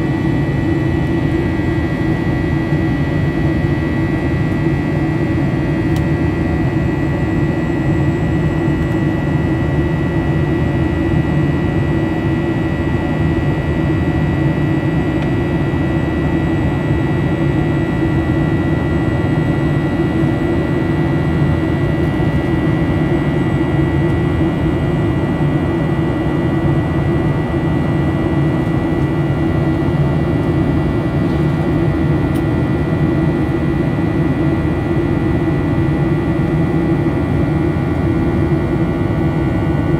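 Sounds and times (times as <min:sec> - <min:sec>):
airplane cabin engine roar: 0:00.0 - 0:39.9
high engine whine: 0:00.0 - 0:39.9.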